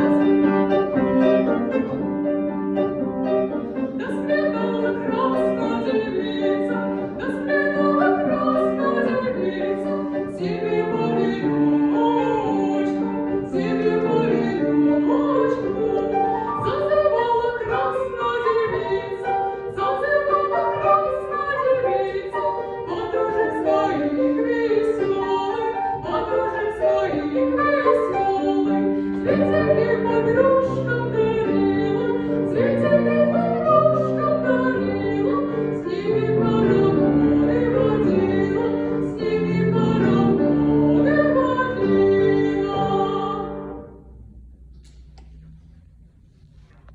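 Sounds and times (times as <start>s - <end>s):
piano accompaniment: 0.0s - 46.9s
woman singing: 3.5s - 43.7s.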